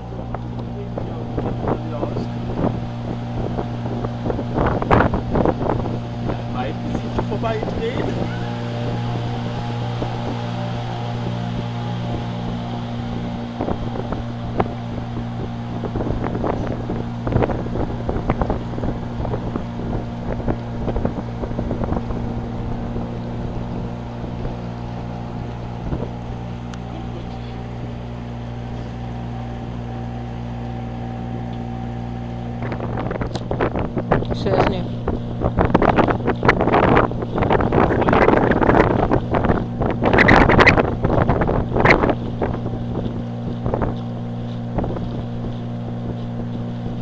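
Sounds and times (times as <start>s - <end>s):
motorboat engine running: 0.0s - 47.0s
wind on microphone: 0.0s - 47.0s.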